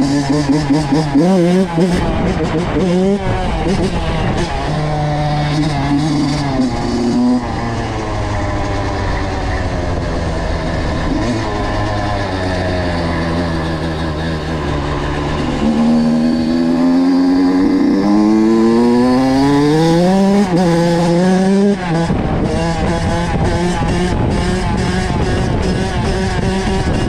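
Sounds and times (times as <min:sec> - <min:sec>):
two-stroke engine accelerating: 0:00.0 - 0:27.0.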